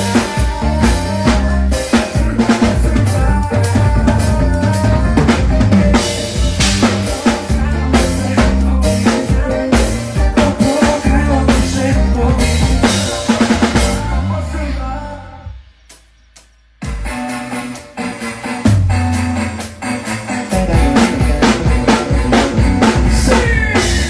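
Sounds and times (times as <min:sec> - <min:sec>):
backing track with bass: 0:00.0 - 0:24.0
drum kit playing: 0:00.0 - 0:24.0.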